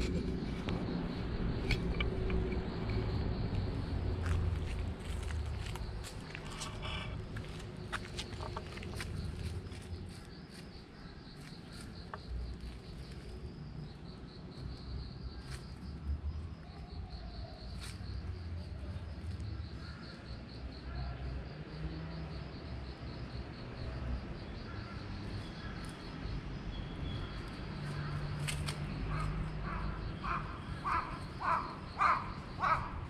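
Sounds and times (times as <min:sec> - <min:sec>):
insects trilling: 0:00.0 - 0:33.0.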